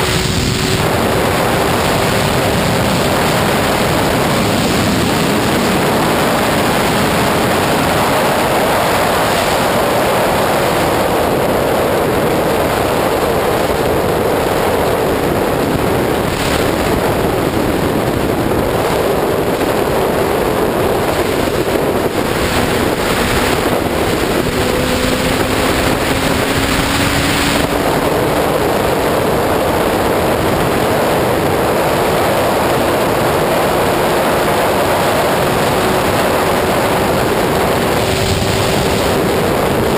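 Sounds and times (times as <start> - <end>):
heavy wind rush: 0.0 - 39.9
motorcycle engine high-revving drone: 0.0 - 39.9.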